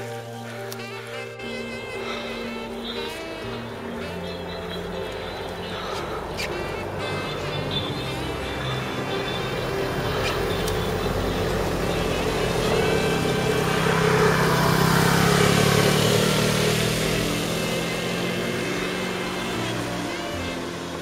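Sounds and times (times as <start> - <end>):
car passing on wet road: 0.0 - 21.0.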